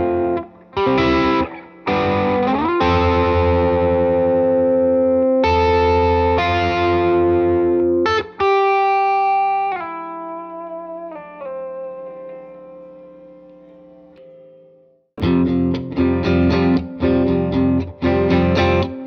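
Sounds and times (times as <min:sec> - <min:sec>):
electric guitar chords with overdrive: 0:00.0 - 0:19.0.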